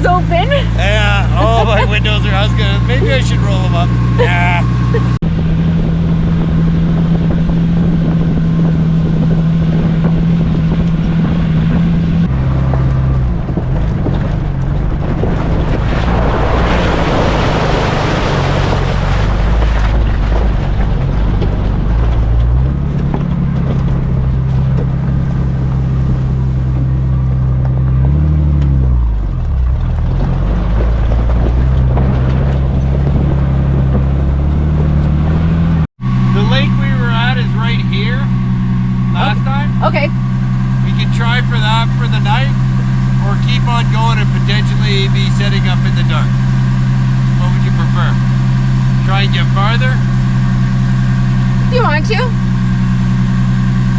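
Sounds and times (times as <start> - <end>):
car engine running: 0.0 - 53.9
wind and road noise: 0.0 - 53.9.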